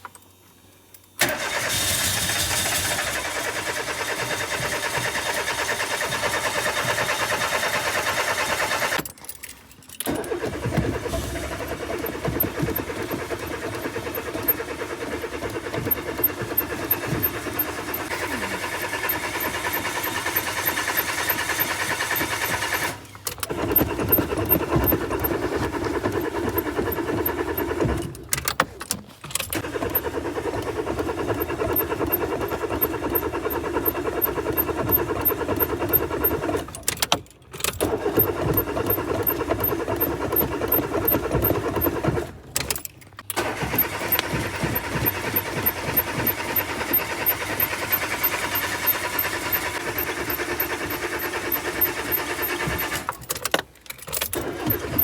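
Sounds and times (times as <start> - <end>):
car starter cranking engine: 1.2 - 55.0.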